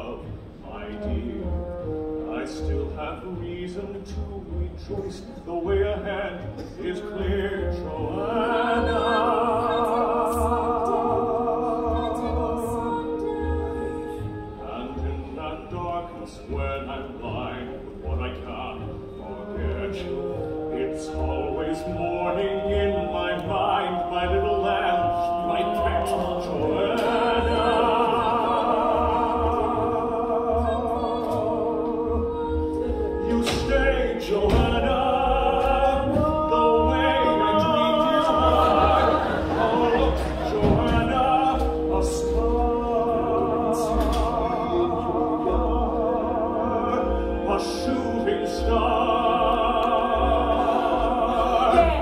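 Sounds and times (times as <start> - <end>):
sustained orchestral chords: 0.0 - 52.0.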